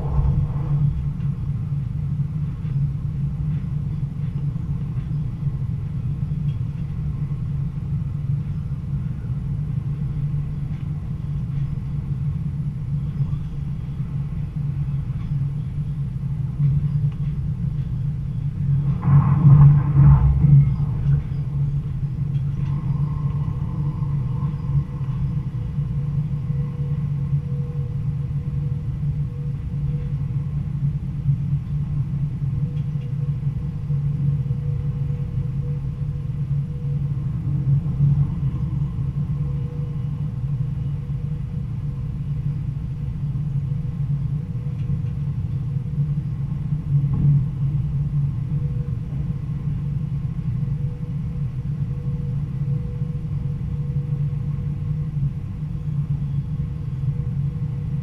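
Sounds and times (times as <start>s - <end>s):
faint steady whine: 0.0s - 58.0s
train rumbling on rails: 0.0s - 58.0s.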